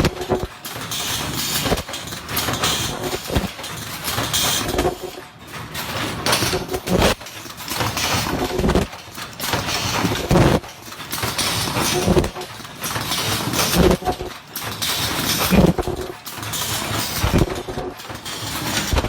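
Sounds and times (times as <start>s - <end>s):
machine knocking: 0.0s - 19.0s
mechanical clatter: 0.0s - 19.0s.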